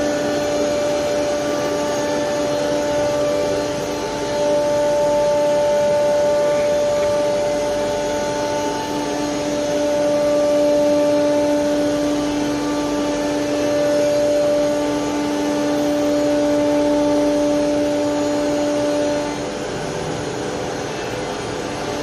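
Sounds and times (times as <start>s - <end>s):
wood router spindles whining: 0.0s - 22.0s.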